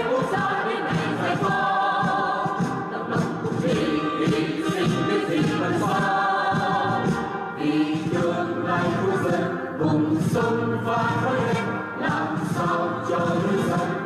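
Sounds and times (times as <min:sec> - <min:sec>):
group singing an anthem: 0:00.0 - 0:14.0.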